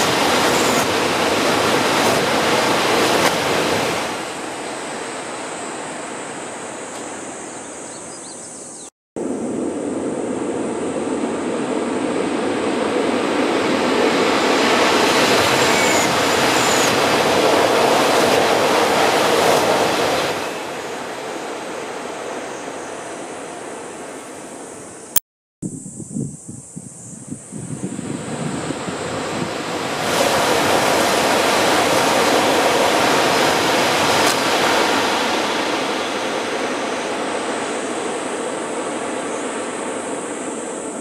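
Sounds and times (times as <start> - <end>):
high-speed train passing: 0.0 - 7.8, 9.2 - 25.1, 27.9 - 41.0.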